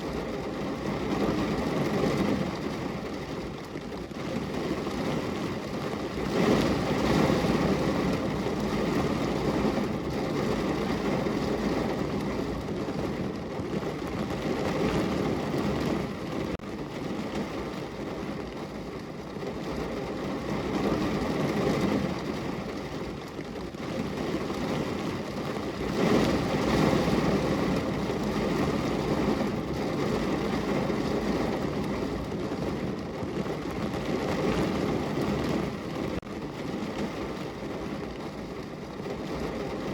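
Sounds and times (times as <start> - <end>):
rain on a car window: 0.0 - 39.9.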